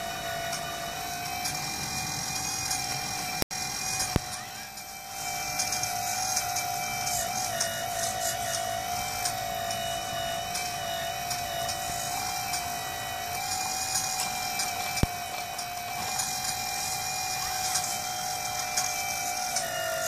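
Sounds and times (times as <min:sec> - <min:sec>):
toy excavator hydraulic pump whining: 0:00.0 - 0:20.0.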